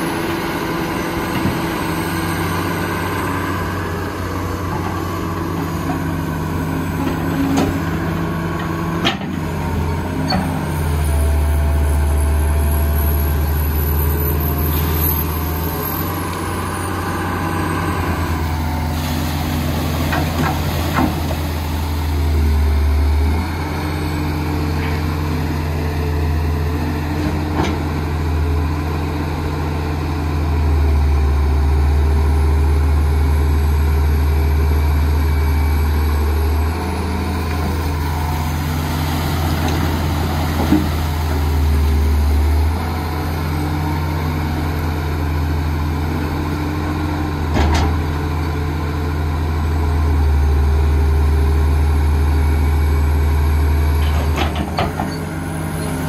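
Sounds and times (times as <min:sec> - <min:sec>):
excavator diesel engine working: 0:00.0 - 0:56.0.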